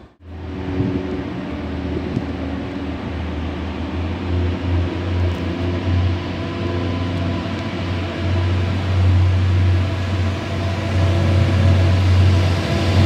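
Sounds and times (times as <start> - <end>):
low mechanical hum of trains: 0.0 - 13.0.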